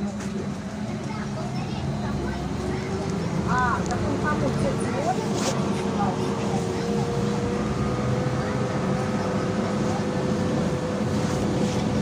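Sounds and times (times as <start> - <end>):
bus running and road noise: 0.0 - 12.0.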